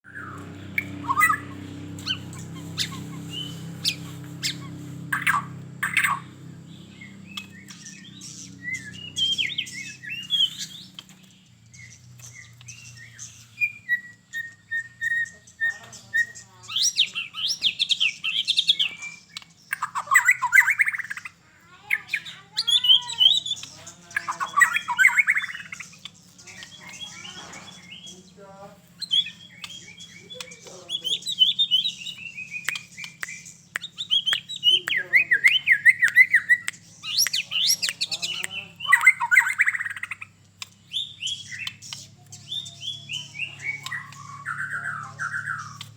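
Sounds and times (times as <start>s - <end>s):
songbird singing whistled phrases: 0.0s - 45.9s.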